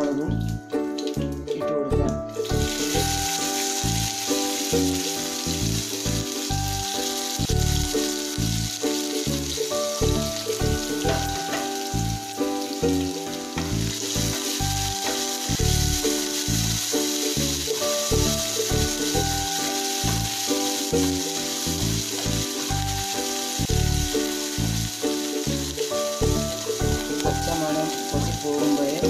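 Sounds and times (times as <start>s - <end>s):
background music with steady beat: 0.0s - 29.0s
garlic sizzling in hot oil: 2.3s - 29.0s.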